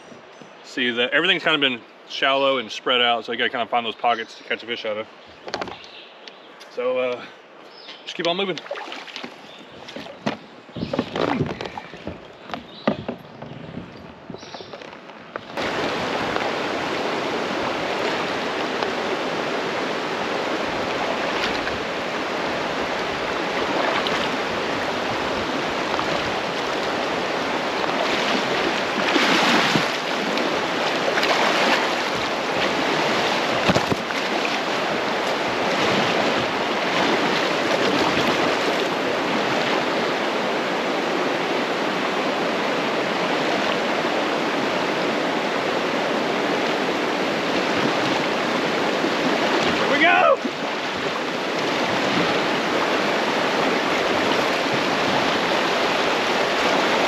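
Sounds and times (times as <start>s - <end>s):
water splashing: 8.2s - 13.6s, 14.5s - 57.0s
river water rushing: 8.4s - 12.5s, 15.4s - 57.0s.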